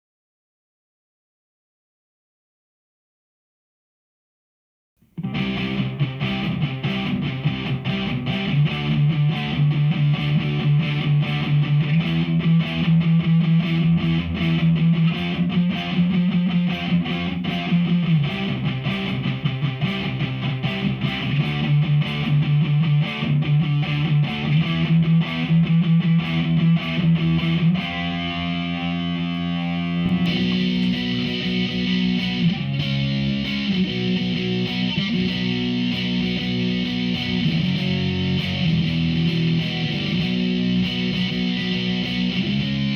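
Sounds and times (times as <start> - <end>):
distorted electric guitar riffing: 5.2 - 42.9.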